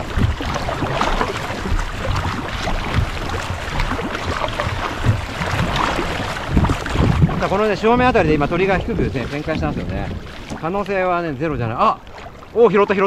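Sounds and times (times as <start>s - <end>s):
paddle splashing: 0.0s - 13.0s
water lapping against hull: 0.0s - 13.0s.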